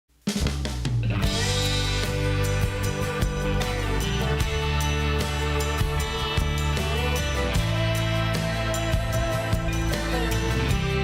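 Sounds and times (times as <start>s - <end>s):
background music with steady beat: 0.2s - 11.0s.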